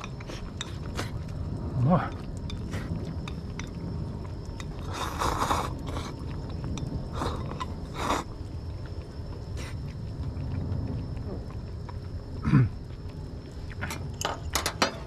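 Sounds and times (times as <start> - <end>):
person chewing food: 0.0 - 1.5, 2.2 - 14.2
low rumble: 0.0 - 15.0.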